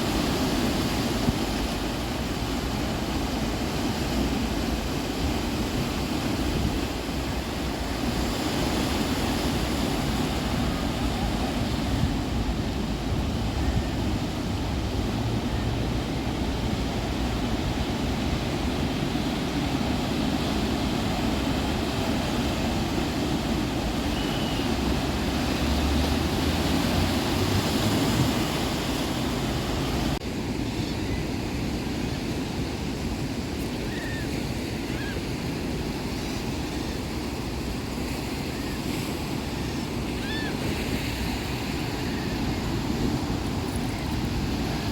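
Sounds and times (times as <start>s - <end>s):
sea surf washing on shore: 0.0s - 44.9s.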